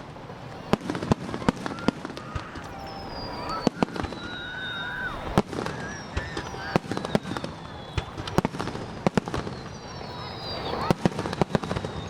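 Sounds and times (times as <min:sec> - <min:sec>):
fireworks bangs and crackles: 0:00.0 - 0:12.0
high falling whistle: 0:00.5 - 0:12.0.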